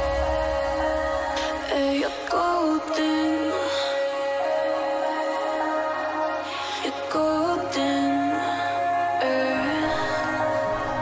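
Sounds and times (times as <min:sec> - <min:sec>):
background song: 0:00.0 - 0:11.0.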